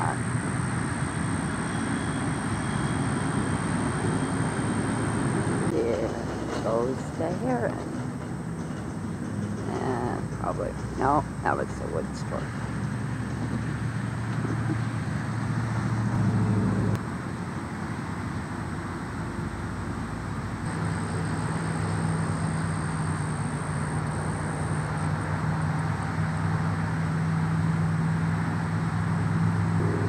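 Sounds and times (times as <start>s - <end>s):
low engine drone: 0.0s - 30.0s
motor vehicles humming: 0.0s - 30.0s.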